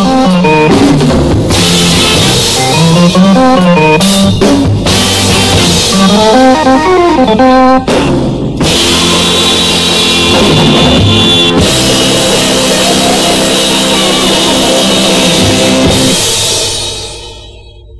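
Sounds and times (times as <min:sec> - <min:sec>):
rock song with drums and guitar: 0:00.0 - 0:17.4.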